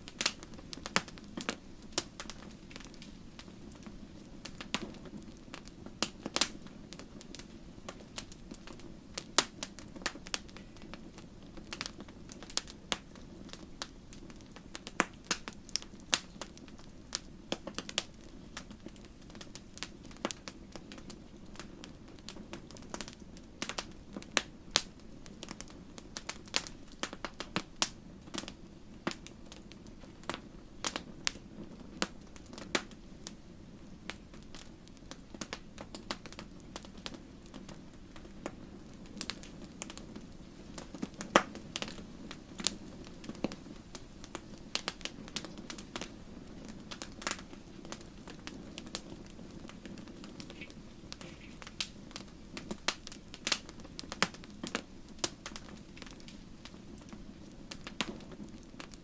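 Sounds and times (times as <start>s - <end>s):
campfire crackling and popping: 0.0s - 59.0s
low rush of flames: 0.0s - 59.0s.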